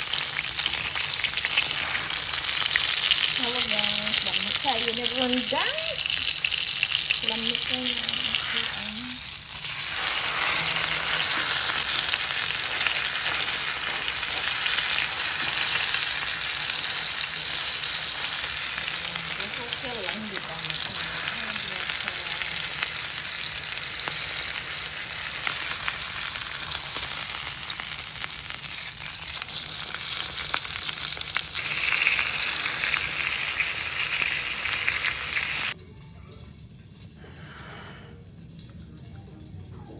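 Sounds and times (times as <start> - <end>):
steak sizzling in a pan: 0.0 - 35.8.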